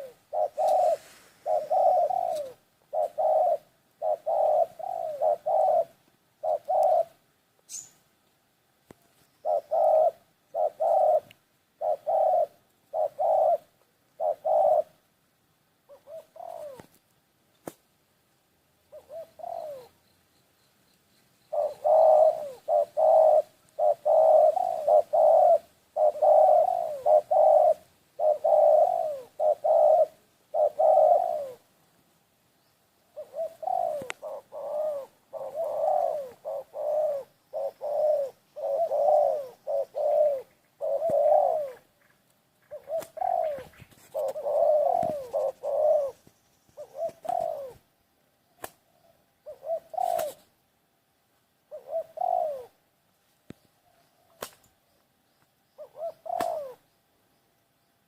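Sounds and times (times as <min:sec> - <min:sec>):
dove cooing: 0:00.0 - 0:08.0, 0:09.2 - 0:15.1, 0:15.8 - 0:17.0, 0:18.9 - 0:20.0, 0:21.4 - 0:31.7, 0:33.0 - 0:50.6, 0:51.6 - 0:52.9, 0:55.7 - 0:56.9.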